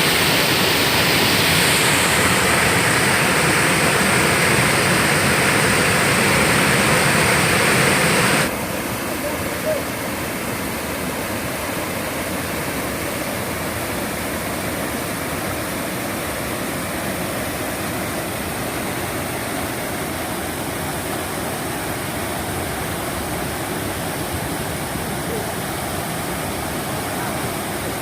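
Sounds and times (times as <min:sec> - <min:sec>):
waterfall and stream rushing: 0:00.0 - 0:28.0.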